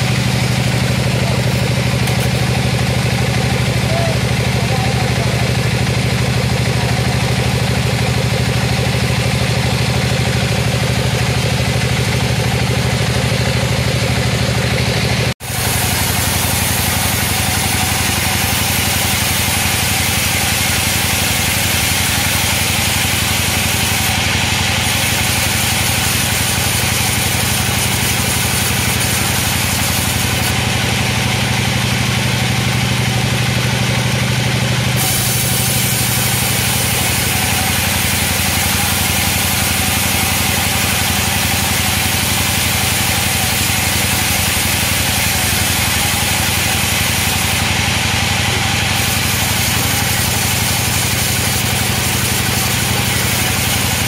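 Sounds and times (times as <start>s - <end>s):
band saw cutting wood: 0.0s - 54.0s
machine drone: 0.0s - 54.0s.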